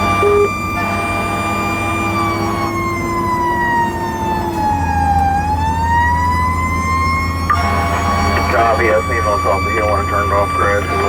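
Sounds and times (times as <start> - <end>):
mechanical siren wailing: 0.0 - 11.0
truck engine drone: 0.0 - 11.0.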